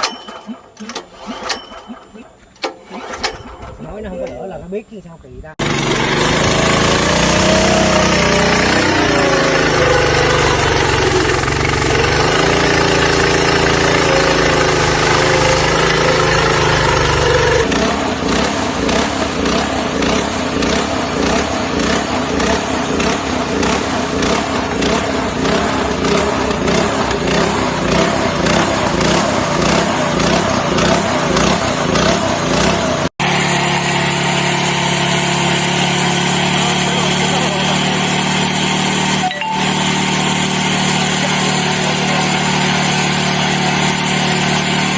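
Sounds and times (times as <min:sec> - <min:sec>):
earth auger engine running: 0:00.0 - 0:04.6, 0:05.6 - 0:44.9.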